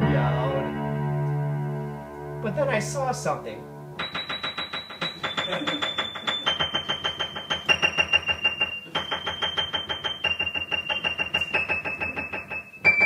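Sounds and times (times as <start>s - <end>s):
fast repeated keyboard chords: 2.4s - 13.0s.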